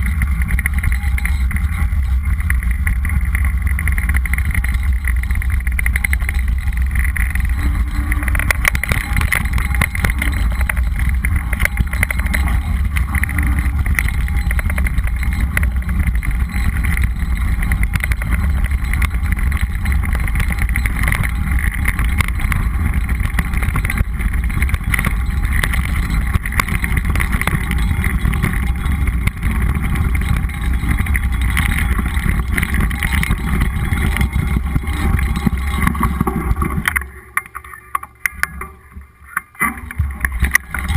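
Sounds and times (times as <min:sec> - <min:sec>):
wind buffeting microphone: 0:00.0 - 0:37.1
bike knocks and rattles: 0:00.0 - 0:40.9
bike tyres rumbling on gravel: 0:00.0 - 0:40.9.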